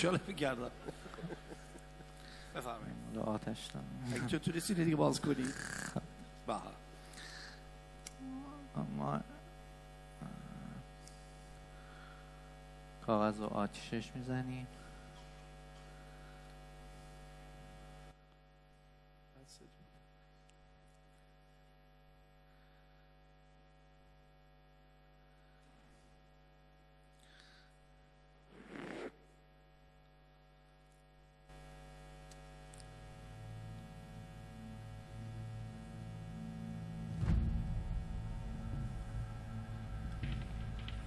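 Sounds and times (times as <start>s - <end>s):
faint mains hum: 0.0s - 41.0s.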